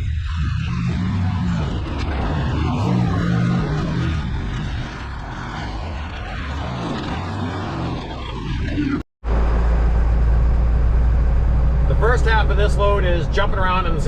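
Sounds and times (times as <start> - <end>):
truck engine driving: 0.0 - 14.0.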